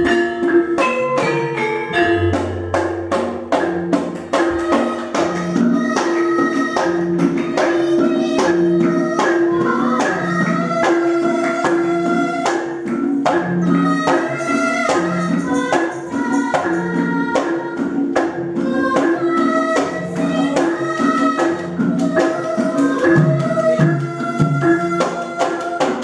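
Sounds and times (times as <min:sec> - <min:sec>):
gamelan gongs and metallophones: 0:00.0 - 0:26.0
girl singing into a microphone: 0:04.6 - 0:12.7, 0:13.3 - 0:26.0.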